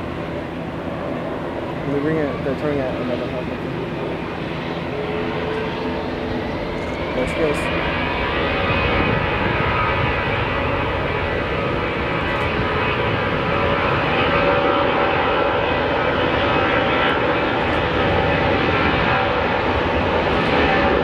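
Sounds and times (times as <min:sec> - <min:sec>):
jet engines at takeoff thrust: 0:00.0 - 0:21.0.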